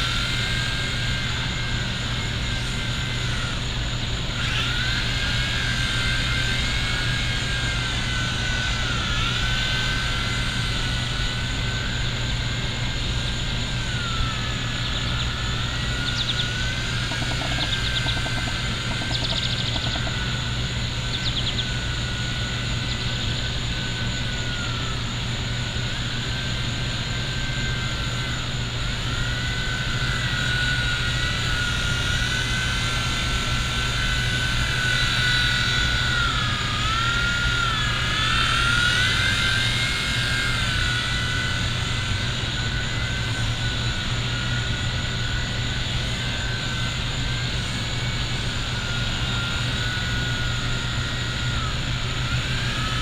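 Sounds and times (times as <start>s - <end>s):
toy helicopter motor whining: 0.0s - 53.0s.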